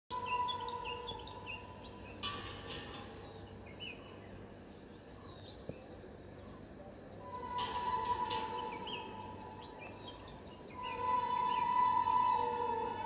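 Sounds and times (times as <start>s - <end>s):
outdoor background hum: 0.1s - 13.0s
small birds chirping: 0.1s - 13.0s.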